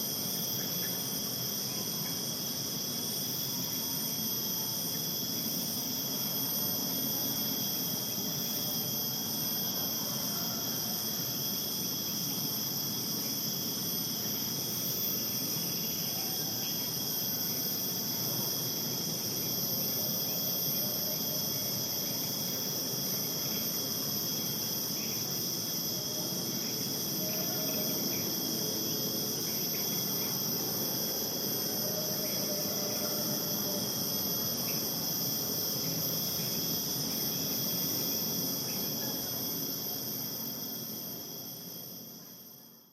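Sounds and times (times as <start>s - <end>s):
insects shrilling: 0.0s - 42.0s.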